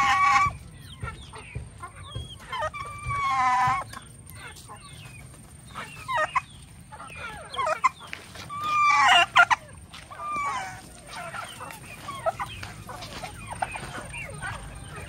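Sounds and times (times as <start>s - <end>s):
chickens clucking and squawking: 0.0s - 15.0s
turkey calling: 0.0s - 15.0s.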